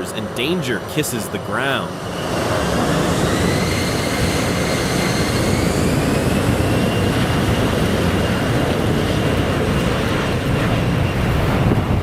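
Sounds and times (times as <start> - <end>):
jet airliner roaring overhead: 0.0 - 12.0.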